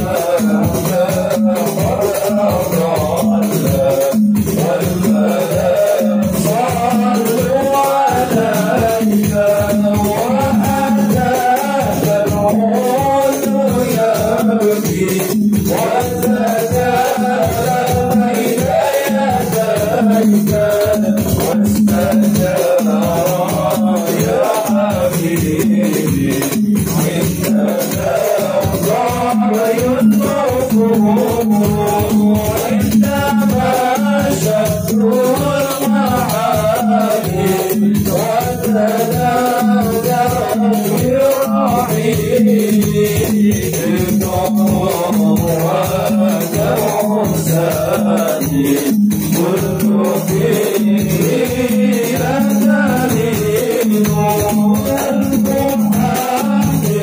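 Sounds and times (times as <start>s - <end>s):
crowd singing along: 0.0s - 57.0s
men chanting into microphones: 0.0s - 57.0s
percussion beat: 0.0s - 57.0s.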